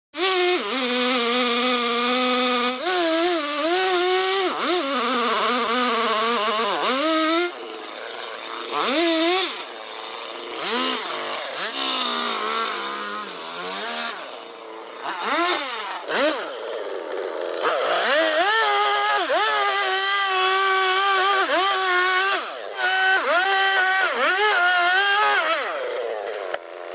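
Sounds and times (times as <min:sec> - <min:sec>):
chainsaw cutting tree trunk: 0:00.2 - 0:26.9.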